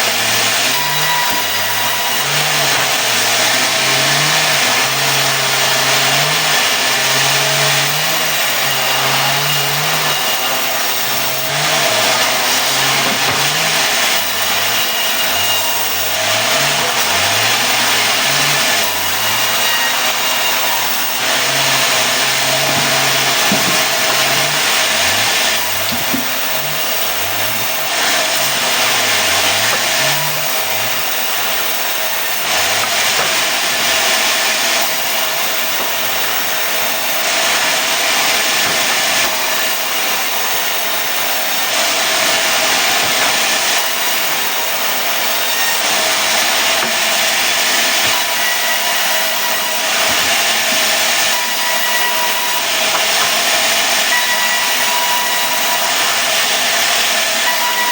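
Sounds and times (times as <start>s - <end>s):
mill engine running: 0.0s - 57.9s
saw hissing through wood: 0.0s - 57.9s.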